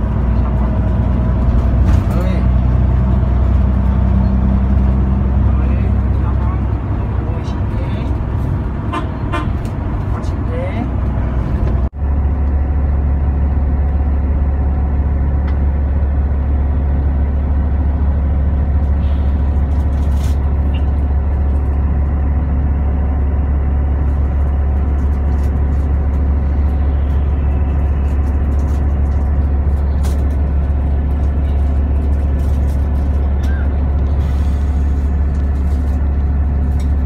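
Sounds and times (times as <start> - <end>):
bus engine and road noise: 0.0 - 37.0.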